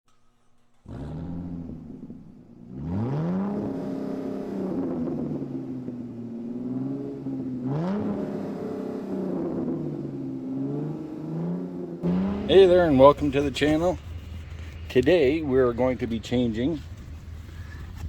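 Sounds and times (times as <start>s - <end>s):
car engine revving: 0.8s - 18.0s.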